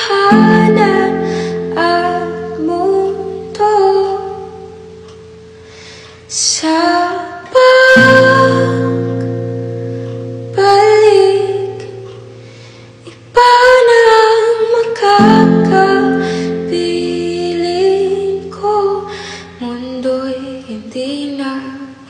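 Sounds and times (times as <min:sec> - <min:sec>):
woman singing ballad: 0:00.0 - 0:04.8, 0:06.3 - 0:22.0
plucked guitar: 0:00.0 - 0:21.4.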